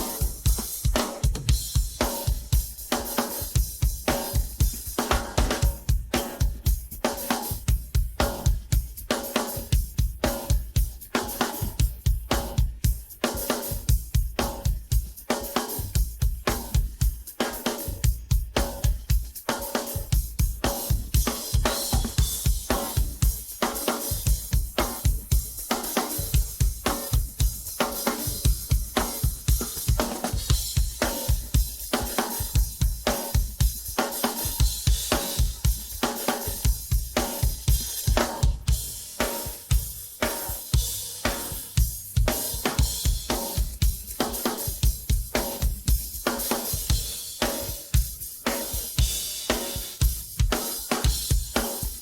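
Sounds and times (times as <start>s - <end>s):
drum kit playing funk-rock groove: 0.0s - 52.0s.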